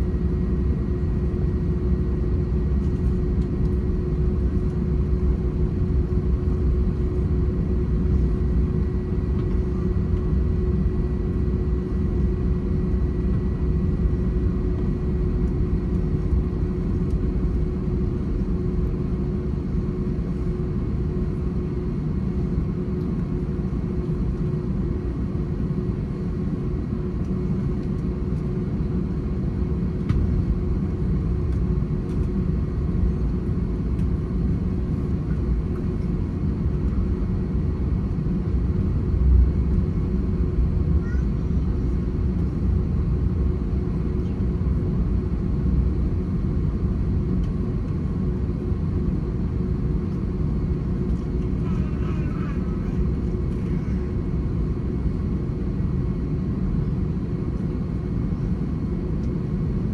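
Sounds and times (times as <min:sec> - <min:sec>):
airliner engine rumble in cabin: 0:00.0 - 0:59.9
constant low hum: 0:00.0 - 0:59.9.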